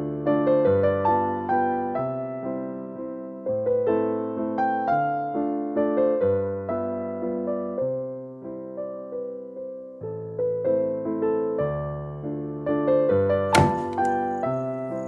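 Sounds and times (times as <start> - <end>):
gentle electric piano tune: 0.0 - 15.0.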